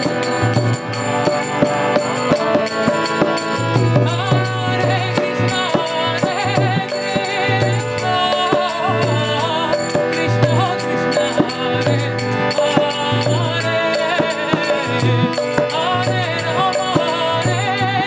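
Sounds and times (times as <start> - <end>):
harmonium chords: 0.0 - 18.0
woman singing with vibrato: 0.0 - 18.0.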